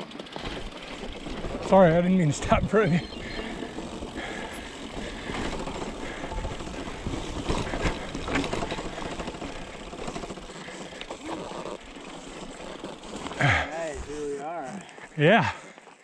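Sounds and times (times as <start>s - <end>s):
bike rattling: 0.0s - 16.0s
tyres crunching over stones: 0.0s - 16.0s.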